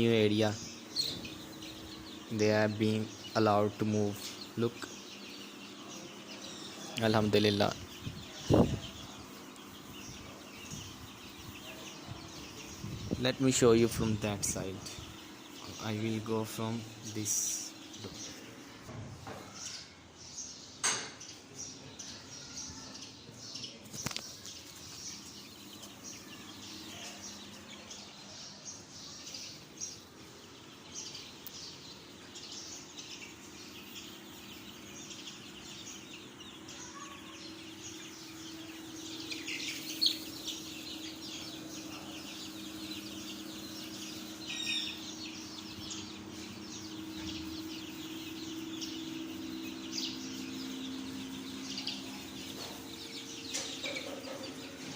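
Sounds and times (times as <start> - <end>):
steady low hum: 0.0 - 20.8, 24.1 - 54.9
chicks peeping: 0.0 - 54.9.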